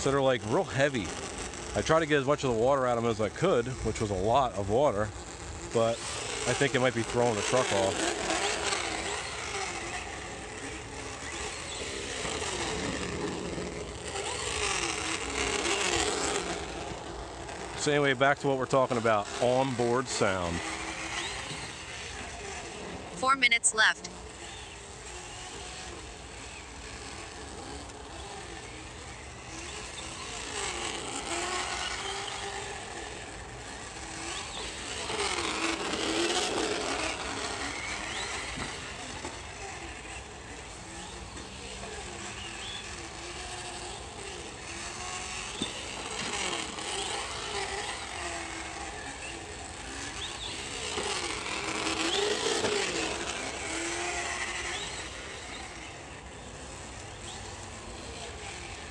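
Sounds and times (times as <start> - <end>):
recorded truck engine from speaker: 0.0 - 58.9.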